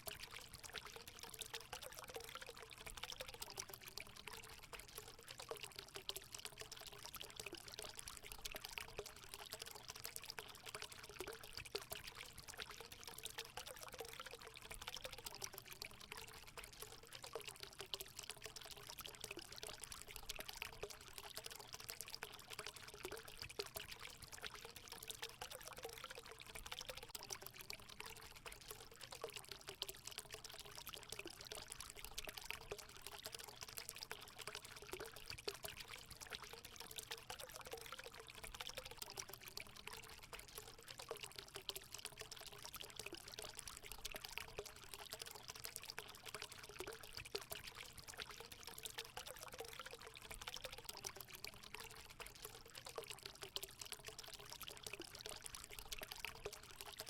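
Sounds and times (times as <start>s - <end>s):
water pouring into pool: 0.0s - 57.0s.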